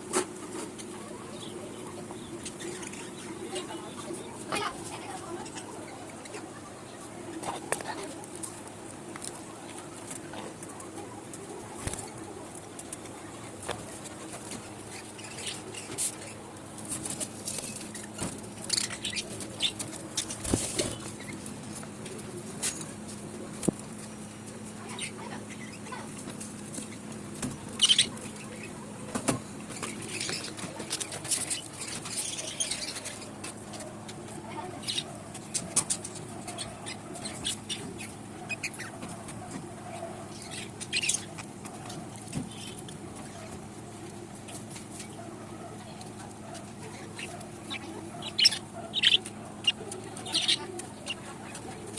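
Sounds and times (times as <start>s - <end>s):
parrots chirping: 0.8s - 8.2s, 13.5s - 21.9s, 24.8s - 51.9s
wings fluttering: 2.4s - 51.9s.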